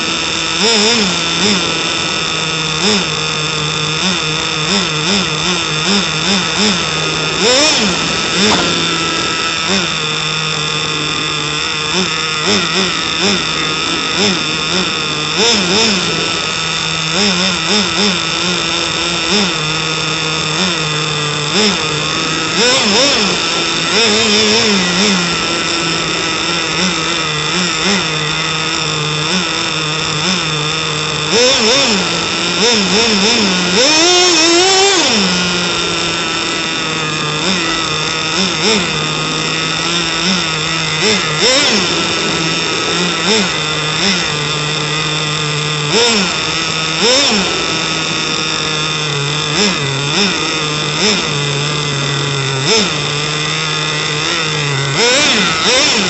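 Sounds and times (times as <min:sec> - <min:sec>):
small engine throttle blips: 0:00.0 - 0:56.0
steady high whine: 0:00.0 - 0:56.0.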